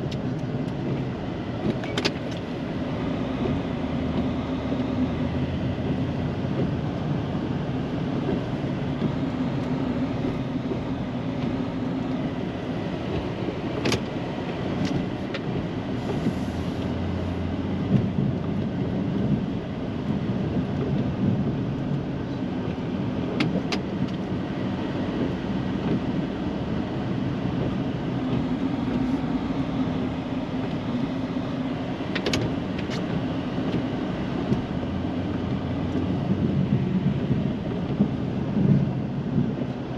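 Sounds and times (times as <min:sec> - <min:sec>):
road noise: 0:00.0 - 0:39.9
snow-plow truck engine: 0:00.0 - 0:39.9.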